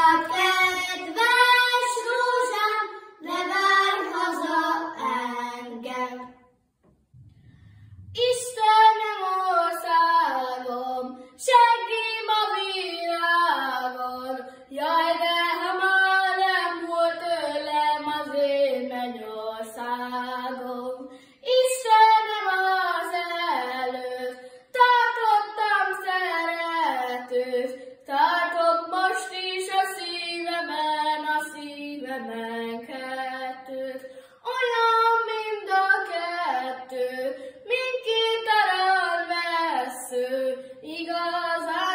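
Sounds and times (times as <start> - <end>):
children singing a folk song: 0.0 - 6.4, 8.2 - 41.9.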